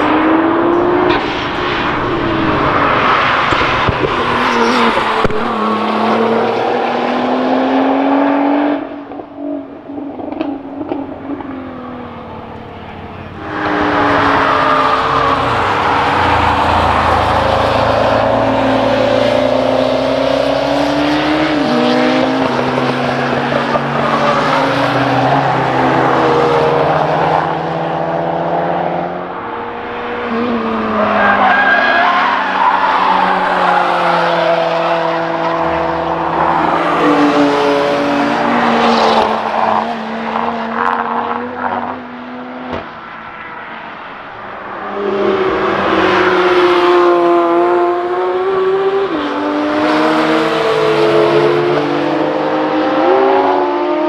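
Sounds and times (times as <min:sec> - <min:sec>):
race cars revving past: 0:00.0 - 0:54.0.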